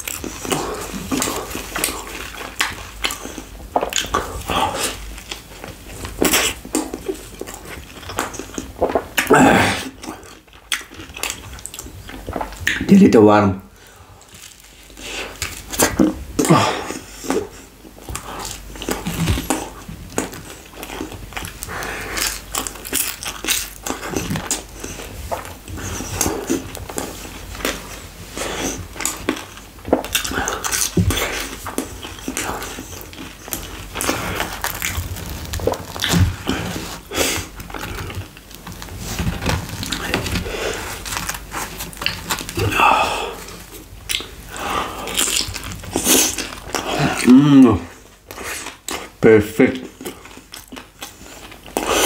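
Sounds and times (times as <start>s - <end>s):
close chewing and mouth sounds: 0.0s - 52.0s.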